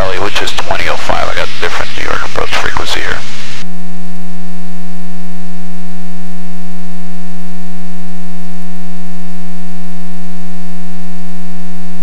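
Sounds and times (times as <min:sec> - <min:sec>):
electrical buzz on radio: 0:00.0 - 0:12.0.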